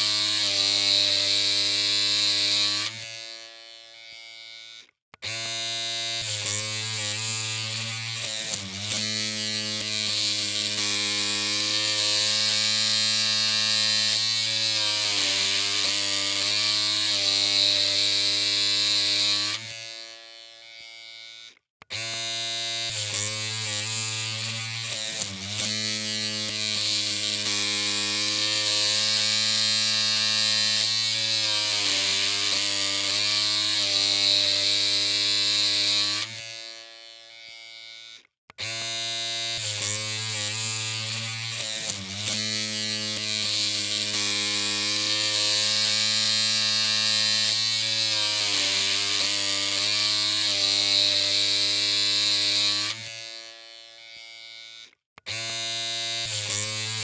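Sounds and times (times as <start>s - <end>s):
electric clippers humming: 0.0s - 57.0s.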